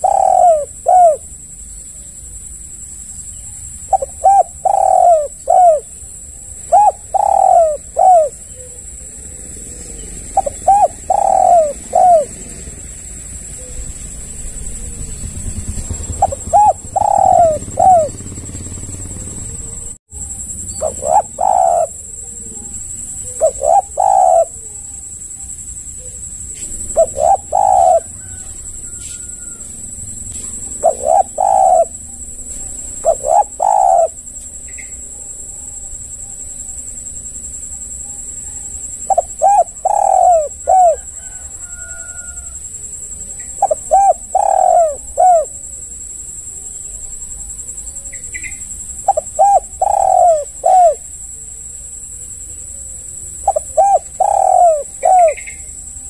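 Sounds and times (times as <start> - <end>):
dove cooing: 0.0 - 2.5, 3.3 - 36.7, 38.3 - 56.0.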